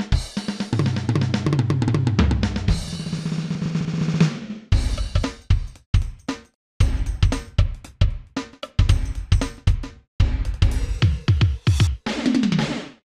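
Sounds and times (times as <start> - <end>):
drum beat: 0.0 - 13.0.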